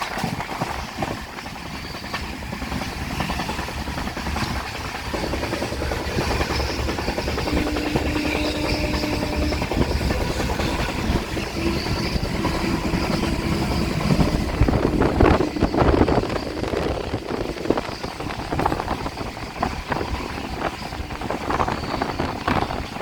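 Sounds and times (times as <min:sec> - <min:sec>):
train rattling: 0:00.0 - 0:23.0
train rumbling: 0:00.0 - 0:23.0.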